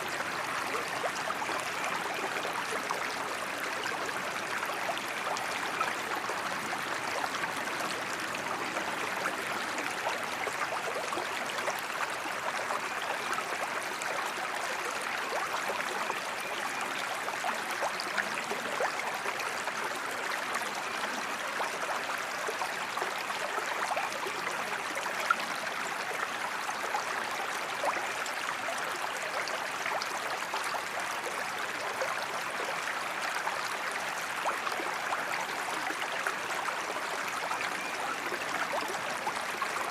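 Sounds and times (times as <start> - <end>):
creek flowing over stones: 0.0 - 39.9.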